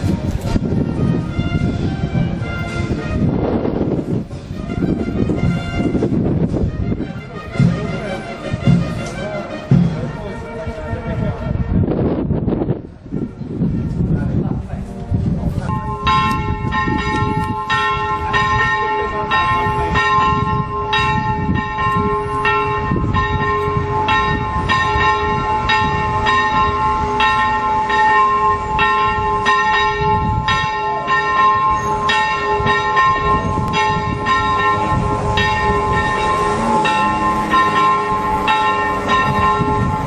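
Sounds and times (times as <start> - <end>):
church bells ringing: 0.0 - 11.6, 14.6 - 40.0.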